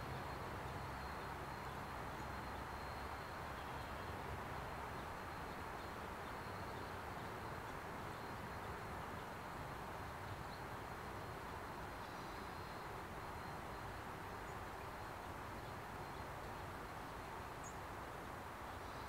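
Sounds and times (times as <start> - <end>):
even background hiss: 0.0 - 19.0.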